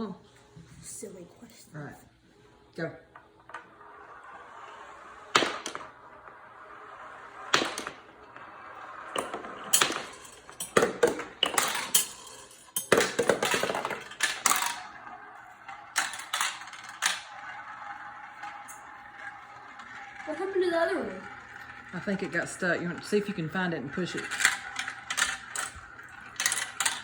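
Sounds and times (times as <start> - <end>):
marble rolling through marble run: 2.9 - 27.0.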